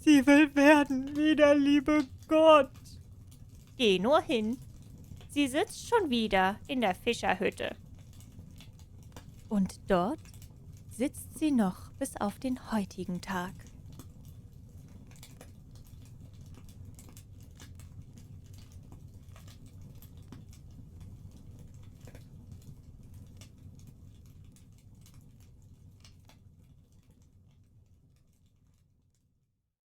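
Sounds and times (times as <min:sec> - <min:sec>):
low fire rumble: 0:00.0 - 0:28.5
wood fire crackling: 0:00.0 - 0:28.9.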